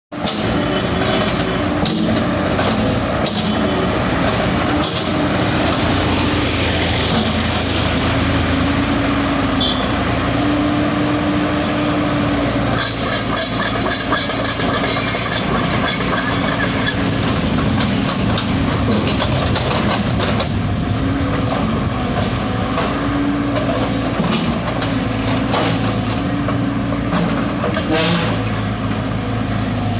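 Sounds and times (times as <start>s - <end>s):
diesel engine under hydraulic load: 0.2s - 29.9s.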